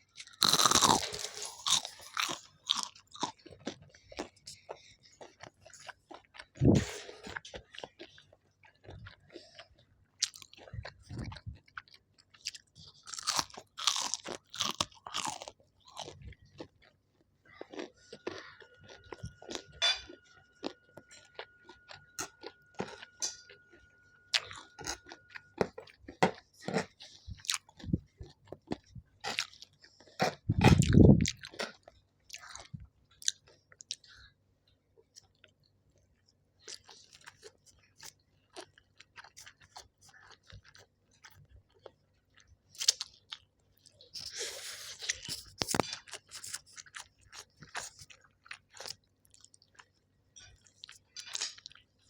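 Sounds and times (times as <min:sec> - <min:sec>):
chewing and crunching food: 0:00.0 - 0:52.0.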